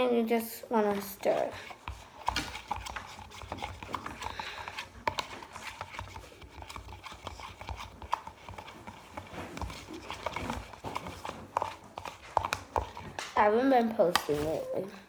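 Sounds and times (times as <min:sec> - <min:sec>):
spoon stirring thick slime: 0:00.0 - 0:15.0
spoon knocking and scraping bowl: 0:00.8 - 0:14.8.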